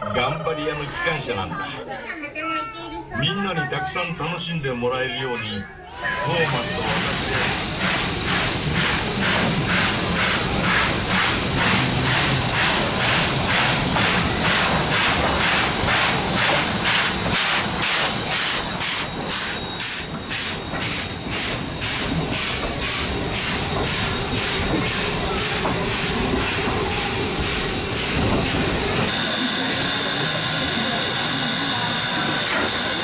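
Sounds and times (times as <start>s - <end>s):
steam hissing: 6.0s - 33.0s
steam locomotive chuffing: 6.0s - 33.0s.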